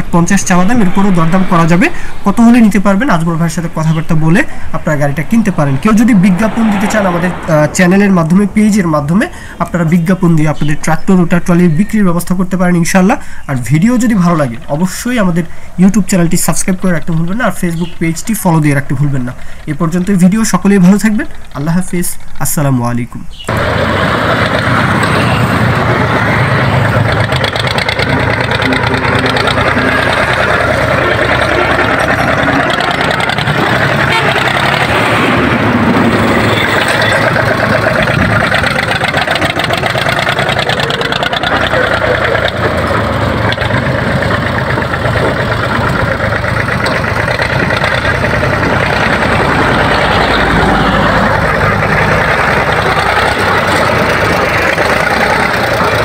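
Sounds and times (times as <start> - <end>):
tractor diesel engine idling: 0.0 - 12.4, 23.5 - 56.0.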